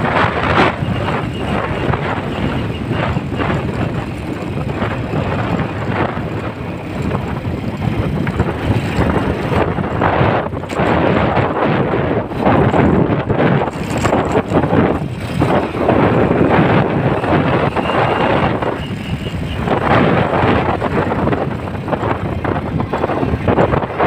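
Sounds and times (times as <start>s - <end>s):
motorcycle engine running: 0.0s - 24.0s
road noise: 0.0s - 24.0s
wind buffeting microphone: 0.0s - 24.0s.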